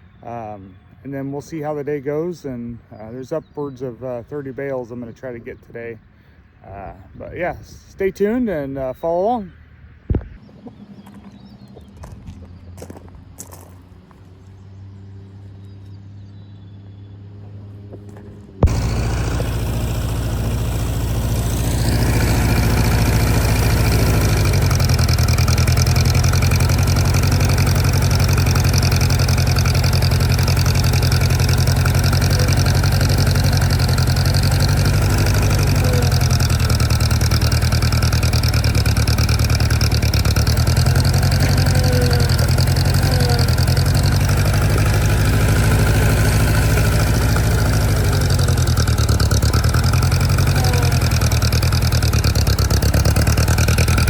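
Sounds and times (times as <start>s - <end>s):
vehicle engine droning: 9.6s - 54.0s.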